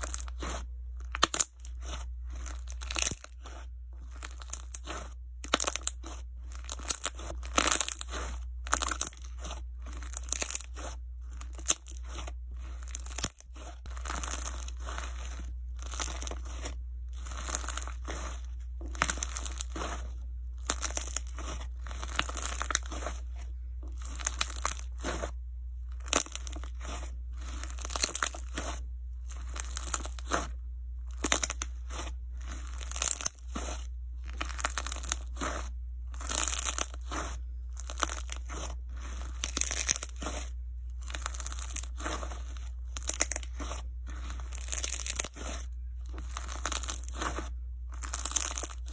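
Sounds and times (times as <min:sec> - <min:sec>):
sponge pieces crunching: 0:00.0 - 0:48.9.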